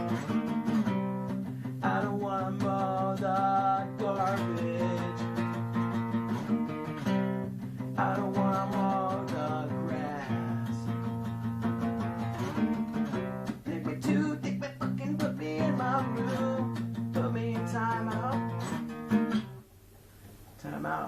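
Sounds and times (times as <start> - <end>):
acoustic guitar strumming: 0.0 - 19.8.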